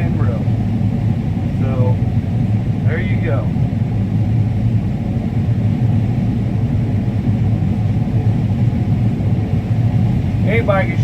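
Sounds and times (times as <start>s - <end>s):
combine harvester rumbling: 0.0s - 11.0s.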